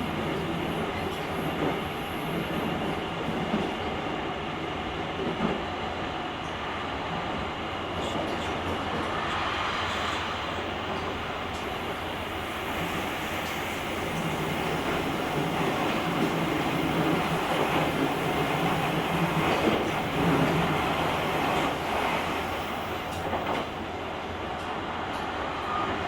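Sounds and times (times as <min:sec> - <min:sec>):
train rolling rumble: 0:00.0 - 0:25.6.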